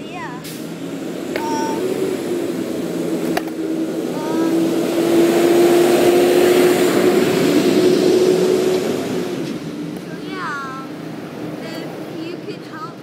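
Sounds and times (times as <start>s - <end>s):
truck engine passing: 0.0s - 13.0s.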